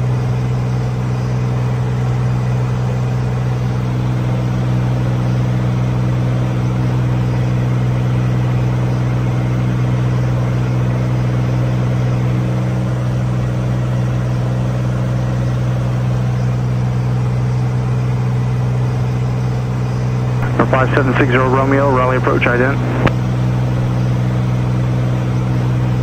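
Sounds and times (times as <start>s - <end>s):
aircraft engine droning in cabin: 0.0s - 26.0s.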